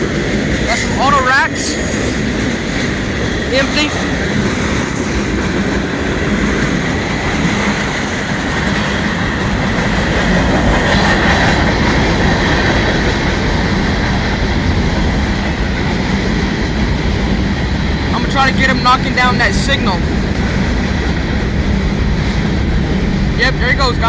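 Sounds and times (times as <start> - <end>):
freight train wheels clattering: 0.0 - 24.0.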